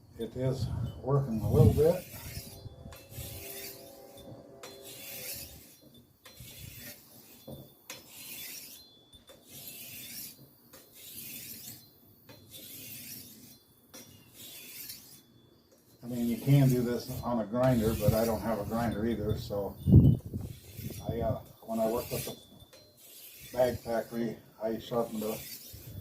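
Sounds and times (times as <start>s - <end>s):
blade rasping on sharpening stone: 1.3s - 26.0s.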